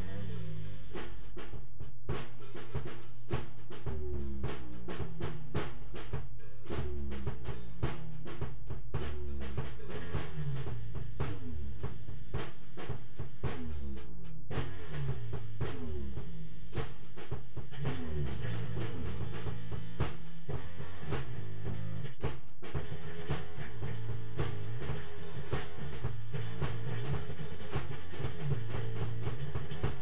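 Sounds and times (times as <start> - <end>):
drums steady beat: 0.0 - 30.0
sliding bass line: 0.0 - 30.0.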